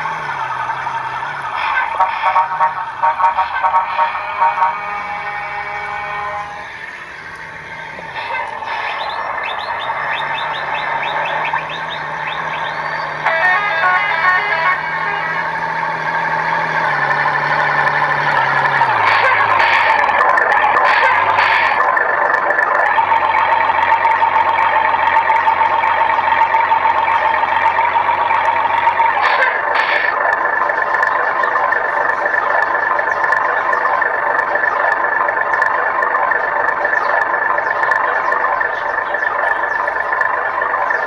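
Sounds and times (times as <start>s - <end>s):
electronic engine sound buzzing: 0.0s - 41.0s.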